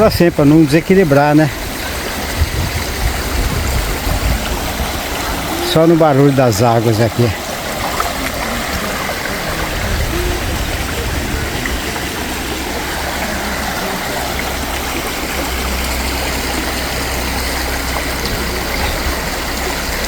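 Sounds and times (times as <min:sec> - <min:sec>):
river rushing over stones: 0:00.0 - 0:20.0.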